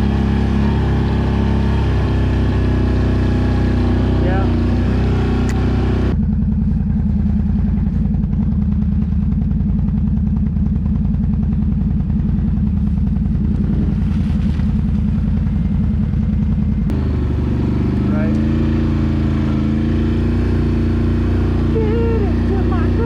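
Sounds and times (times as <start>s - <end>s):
quad bike engine running: 0.0s - 23.0s.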